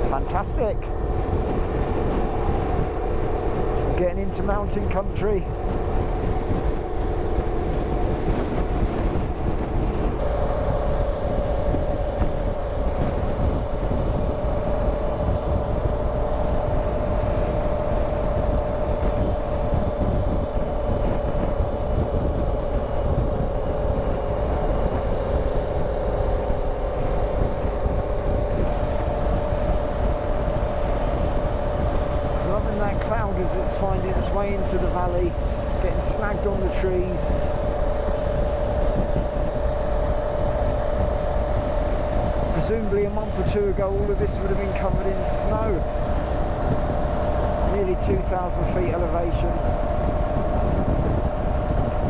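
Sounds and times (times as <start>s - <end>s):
motorcycle engine running: 0.0s - 52.0s
road rumble: 0.0s - 52.0s
wind noise: 0.0s - 52.0s.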